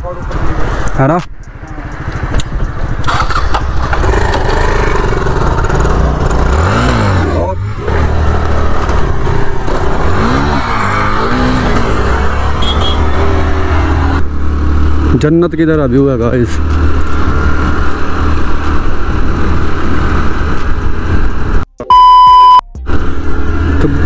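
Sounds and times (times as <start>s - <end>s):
motorcycle and scooter engines: 0.0s - 21.7s, 22.8s - 24.0s.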